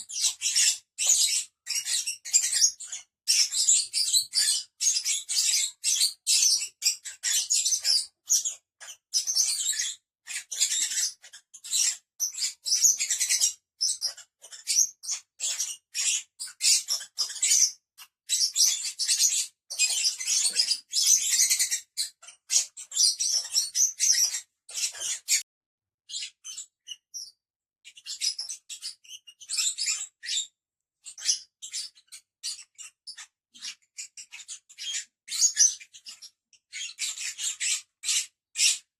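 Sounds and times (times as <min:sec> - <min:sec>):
lovebirds chirping: 0:00.0 - 0:25.5, 0:28.0 - 0:38.8.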